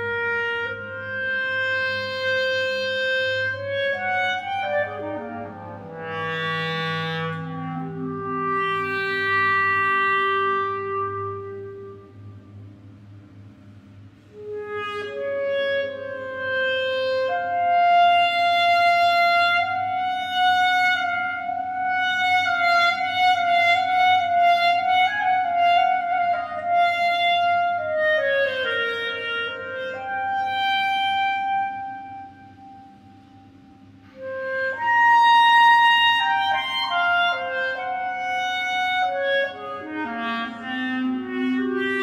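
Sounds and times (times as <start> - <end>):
solo clarinet long notes: 0.0 - 12.7, 14.2 - 42.0
steady low hum: 0.0 - 42.0.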